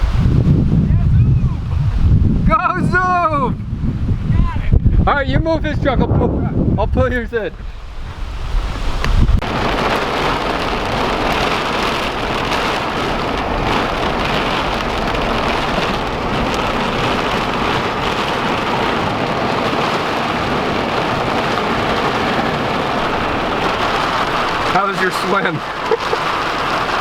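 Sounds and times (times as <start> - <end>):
heavy rain pouring: 0.0 - 2.6, 7.7 - 27.0.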